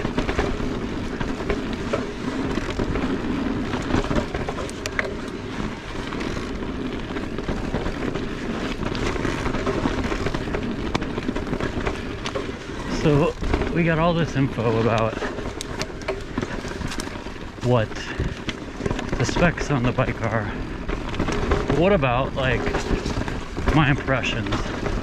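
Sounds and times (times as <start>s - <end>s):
bike clicks and rattles: 0.0s - 25.0s
tyre and wind noise: 0.0s - 25.0s.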